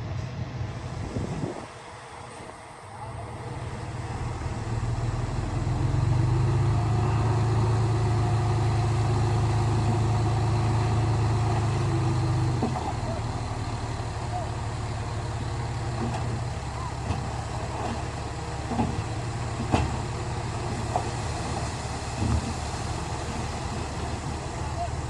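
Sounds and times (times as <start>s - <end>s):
heavy diesel engine: 0.0s - 25.0s.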